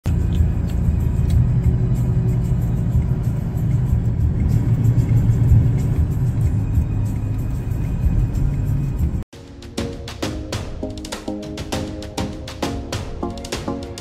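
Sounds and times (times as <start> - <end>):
music with heavy bass beat: 0.1 - 14.0.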